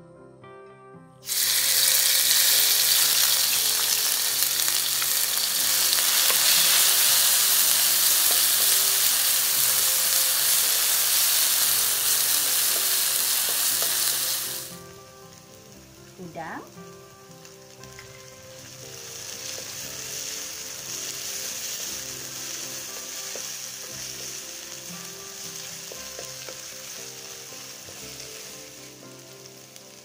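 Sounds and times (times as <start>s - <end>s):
paste sizzling in hot oil: 1.2s - 30.0s.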